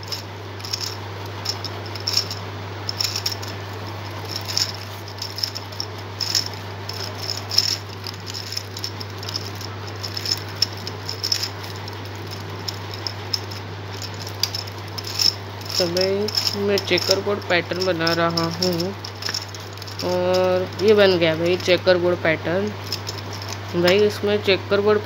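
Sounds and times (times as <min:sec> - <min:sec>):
plastic puzzle gears clicking: 0:00.0 - 0:24.2
steady low hum: 0:00.0 - 0:25.0.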